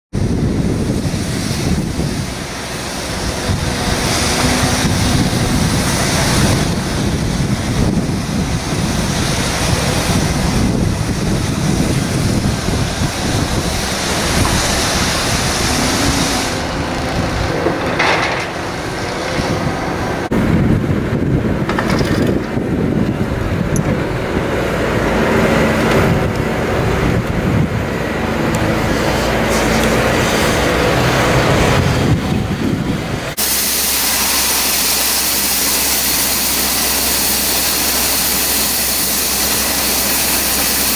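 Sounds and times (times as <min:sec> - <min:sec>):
wind buffeting microphone: 0:00.1 - 0:33.5
excavator diesel engine running: 0:00.2 - 0:40.9.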